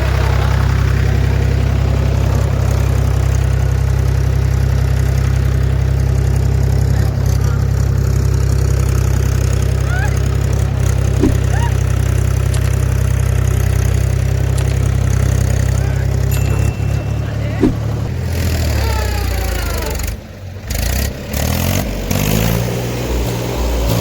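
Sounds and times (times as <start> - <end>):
diesel engine running steadily: 0.0 - 24.0.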